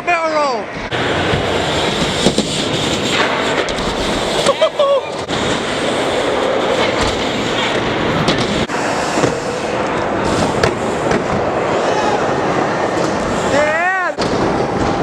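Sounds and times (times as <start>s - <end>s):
wheels rolling over ramps: 0.7s - 15.0s.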